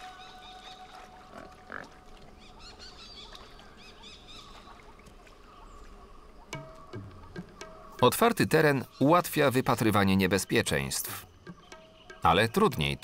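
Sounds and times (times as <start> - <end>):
small birds chirping: 2.4 - 13.0.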